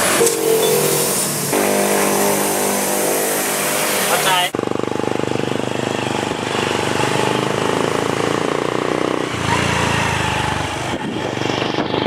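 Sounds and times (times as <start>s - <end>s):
motorcycle engine running: 1.2s - 12.0s.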